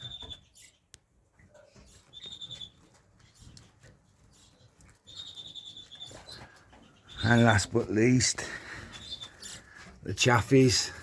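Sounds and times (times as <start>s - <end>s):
faint bird chirps: 0.0s - 7.7s, 8.4s - 9.8s.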